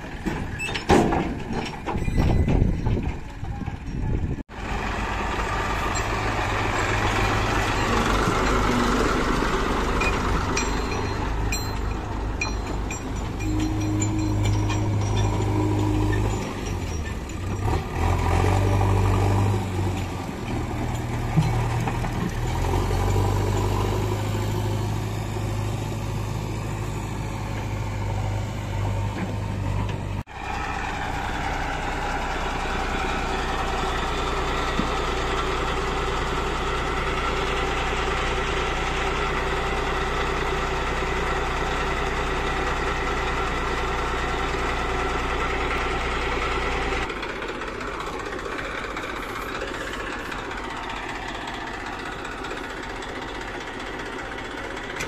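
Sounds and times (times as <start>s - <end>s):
backhoe diesel engine under load: 0.0s - 55.0s
tractor diesel engine humming: 0.0s - 55.0s.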